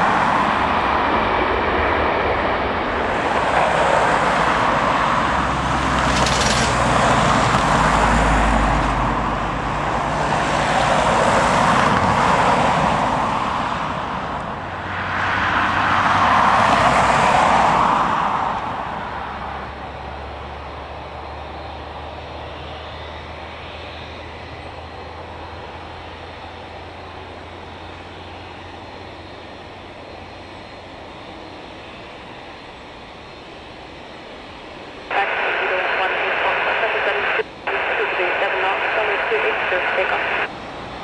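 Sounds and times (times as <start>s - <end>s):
airliner engine roar: 0.0s - 41.0s.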